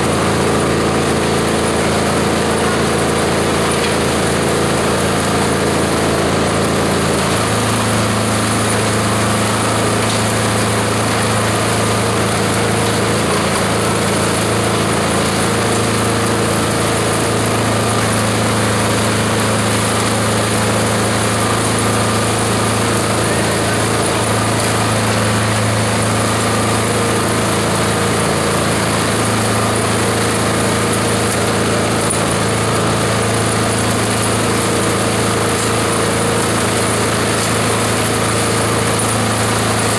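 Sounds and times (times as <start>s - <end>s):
shredder grinding plant material: 0.0s - 39.9s.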